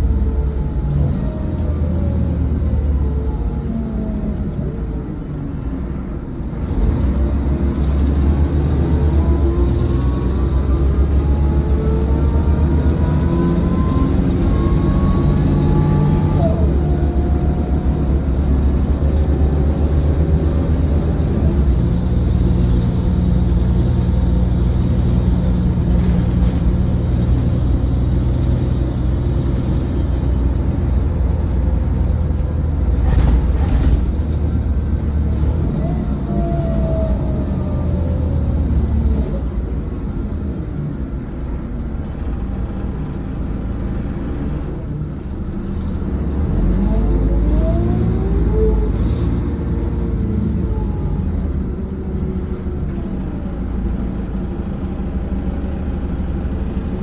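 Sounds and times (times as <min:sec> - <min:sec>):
bus diesel engine drone: 0:00.0 - 0:57.0
road rumble: 0:00.0 - 0:57.0.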